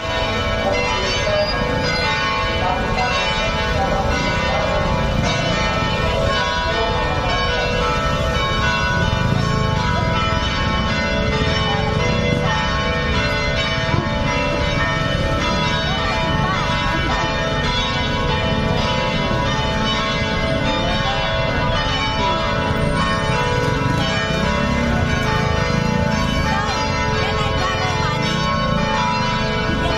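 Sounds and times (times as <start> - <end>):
church bells pealing: 0.0 - 29.9.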